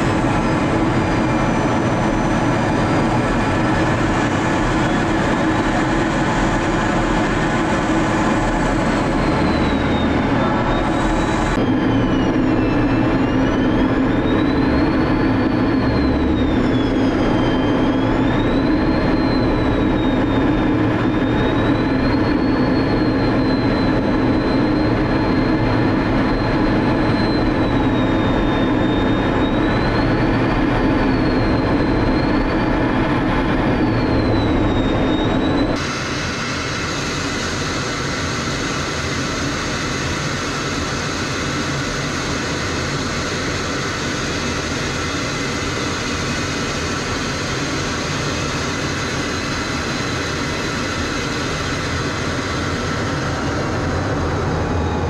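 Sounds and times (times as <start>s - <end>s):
jet engine and rushing air: 0.0s - 55.0s
wavering high whine: 0.0s - 55.0s.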